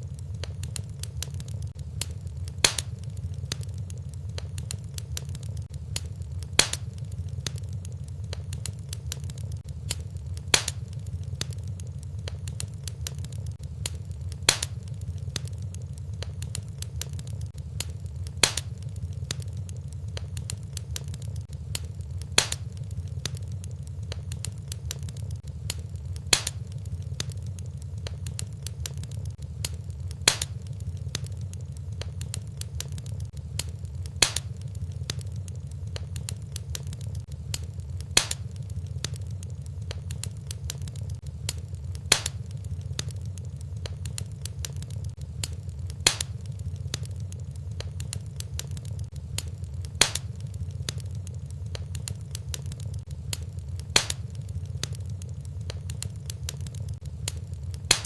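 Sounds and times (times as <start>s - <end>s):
fireplace fire crackling: 0.0s - 58.0s
sharp fire pop: 0.4s - 11.6s, 12.2s - 23.5s, 24.1s - 35.3s, 36.0s - 43.2s, 43.8s - 47.2s, 47.8s - 55.0s, 55.6s - 58.0s.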